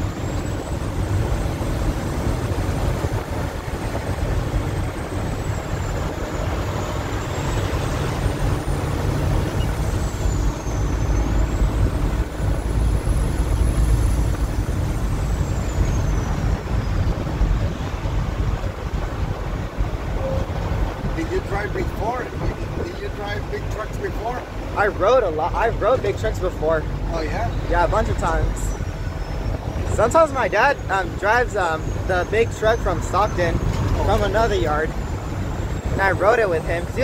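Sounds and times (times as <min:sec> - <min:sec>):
truck engine and road rumble: 0:00.0 - 0:37.0.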